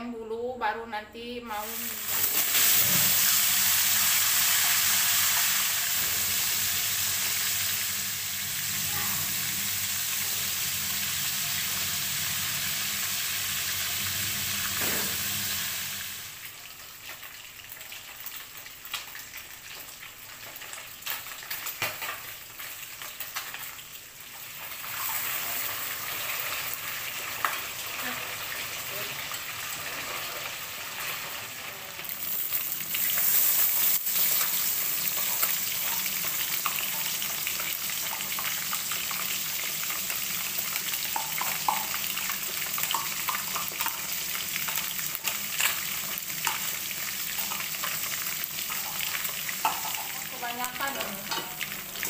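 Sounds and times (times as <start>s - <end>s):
fish sizzling in hot oil: 1.6s - 52.0s.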